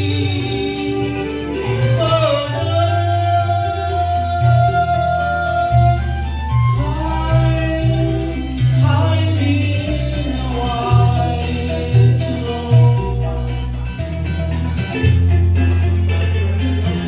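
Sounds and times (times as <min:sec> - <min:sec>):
person singing: 0:00.0 - 0:14.1
bass line: 0:00.0 - 0:17.0
plucked strings: 0:00.0 - 0:17.0.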